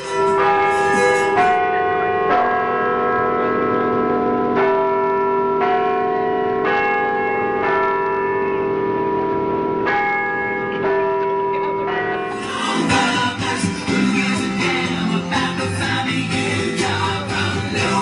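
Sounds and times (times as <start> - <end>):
bell-like notes: 0.0 - 18.0.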